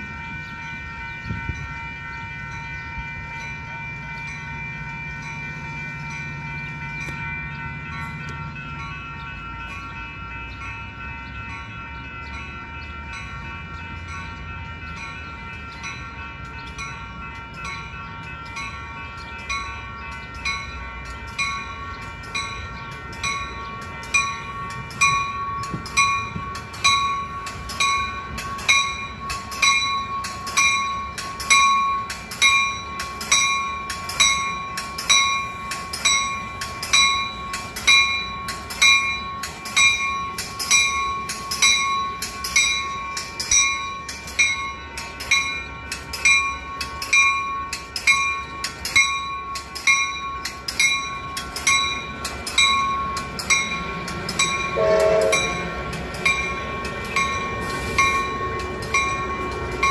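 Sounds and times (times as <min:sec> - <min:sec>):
railroad warning bell ringing: 0:00.0 - 0:59.9.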